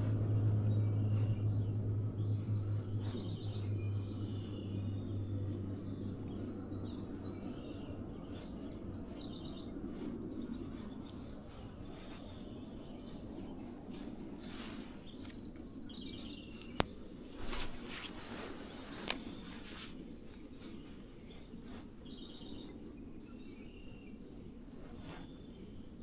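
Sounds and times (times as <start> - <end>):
low steady hum: 0.0 - 26.0
small birds chirping and trilling: 0.0 - 26.0.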